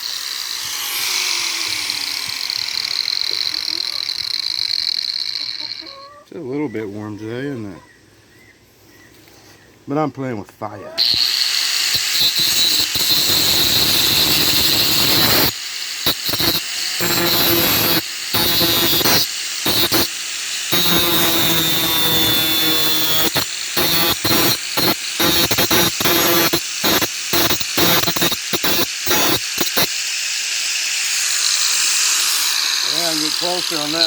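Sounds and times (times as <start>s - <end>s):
grinder wheel grinding steel: 0.0s - 6.0s, 11.0s - 34.0s.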